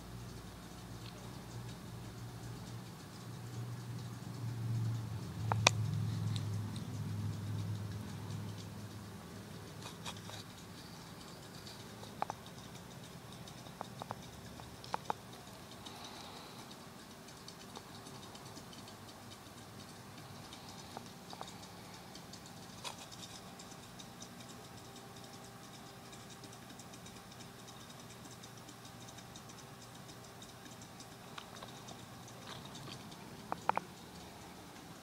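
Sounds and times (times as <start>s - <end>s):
aquarium pump humming: 0.0s - 35.0s
fine crackle of tiny ticks: 0.0s - 35.0s.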